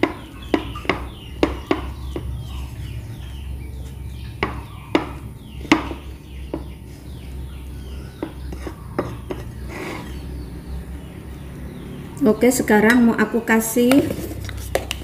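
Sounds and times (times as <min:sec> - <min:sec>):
spoon stirring dough: 0:00.0 - 0:10.6, 0:12.8 - 0:15.0.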